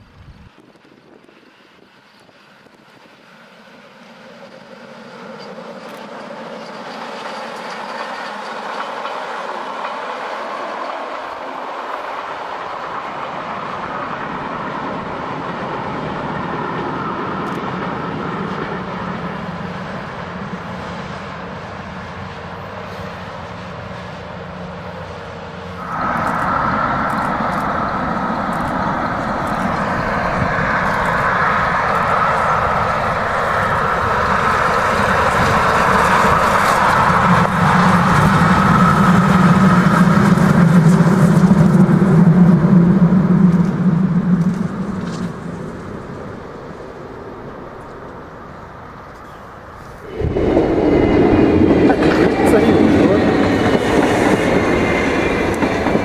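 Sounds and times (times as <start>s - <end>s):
passenger train running past: 0.0s - 56.0s
train approaching: 0.0s - 56.0s.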